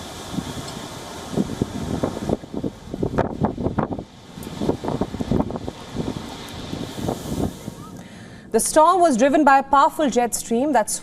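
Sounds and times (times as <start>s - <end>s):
storm wind buffeting microphone: 0.0s - 9.4s.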